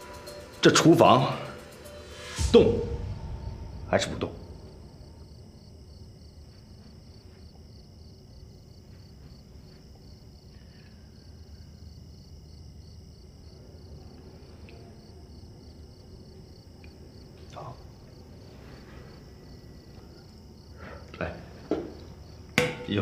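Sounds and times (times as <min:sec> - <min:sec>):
cricket chirping: 0:00.0 - 0:23.0
low background hum: 0:01.3 - 0:23.0.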